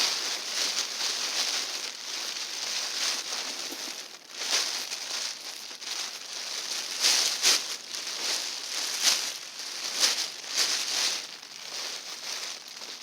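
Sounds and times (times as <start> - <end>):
fabric rustling and crinkling: 0.0 - 13.0.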